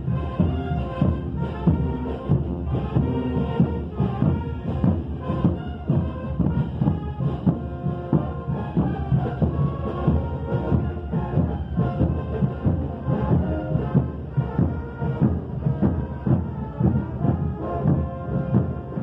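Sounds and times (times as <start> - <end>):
brass band playing: 0.0 - 19.0
heavy drum beat: 0.0 - 19.0.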